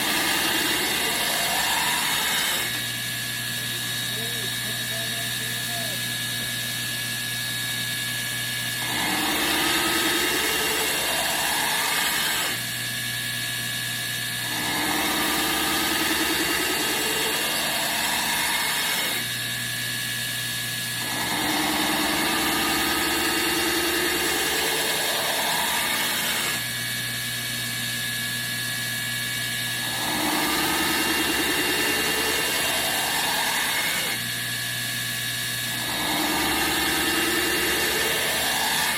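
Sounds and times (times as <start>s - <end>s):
knife grinding on belt grinder: 0.0s - 6.8s, 8.8s - 13.4s, 14.4s - 19.8s, 20.8s - 28.2s, 29.4s - 38.9s
grinder motor hum: 0.0s - 38.9s.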